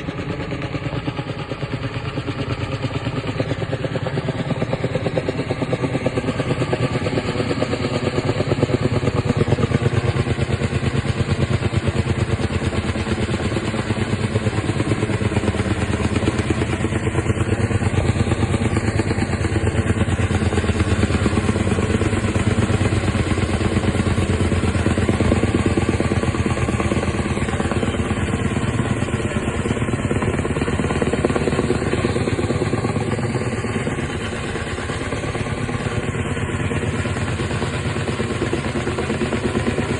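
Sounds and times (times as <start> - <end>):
helicopter engine drone: 0.0 - 39.9
helicopter rotor chop: 0.0 - 39.9.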